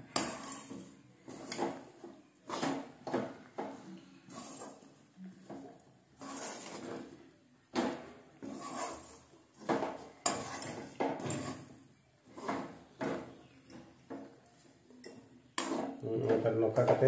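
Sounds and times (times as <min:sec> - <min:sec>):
spoon scraping metal pan: 0:00.0 - 0:03.0, 0:03.7 - 0:07.2, 0:07.8 - 0:14.4, 0:15.0 - 0:17.0.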